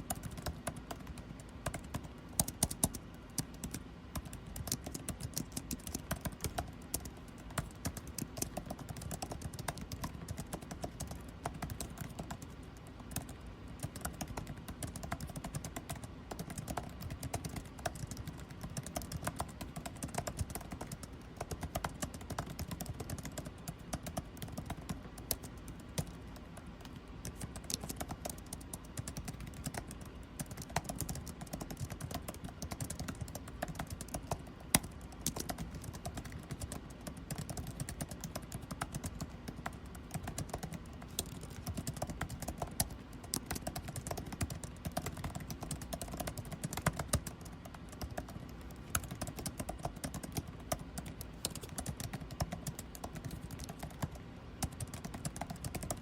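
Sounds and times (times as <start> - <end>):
air conditioning hum: 0.0 - 56.0
keyboard typing clicks: 0.0 - 56.0.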